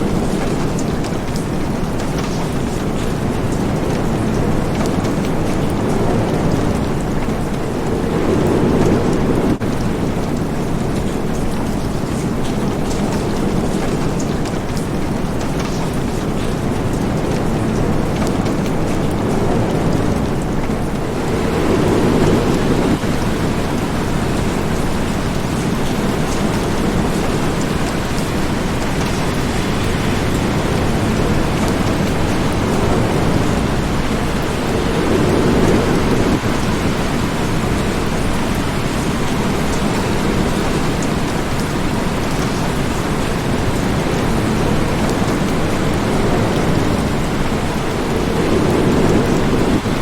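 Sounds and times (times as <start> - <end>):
heavy rain falling: 0.0 - 50.0
low rolling thunder: 0.0 - 50.0.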